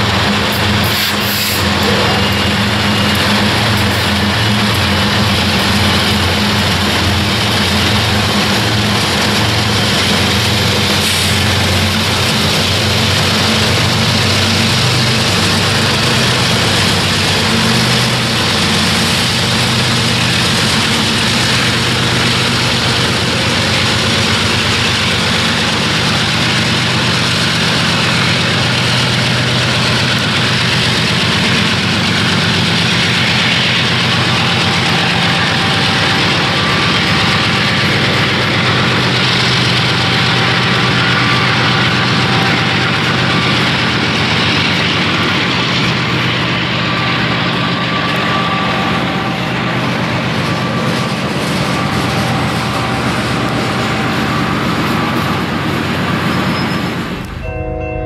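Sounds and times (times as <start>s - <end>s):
loud rushing noise: 0.0s - 57.5s
diesel locomotive engine drone: 0.0s - 58.0s.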